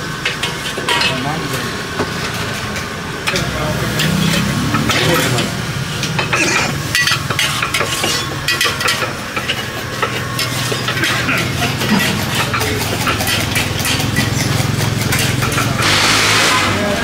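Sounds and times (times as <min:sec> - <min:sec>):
metal cookware clinking: 0:00.2 - 0:16.2.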